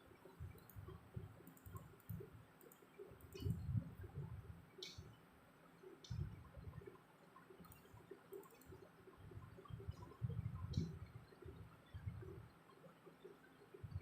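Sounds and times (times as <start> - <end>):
faint mouse clicks: 0.2 - 5.2, 5.8 - 13.7.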